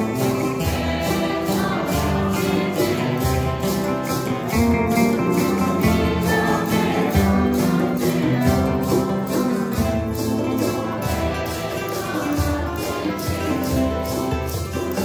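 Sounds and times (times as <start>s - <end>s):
congregation singing a hymn: 0.0s - 15.0s
plucked string instrument: 0.0s - 15.0s
shaken rattle: 0.0s - 15.0s
strummed acoustic guitars: 0.0s - 15.0s.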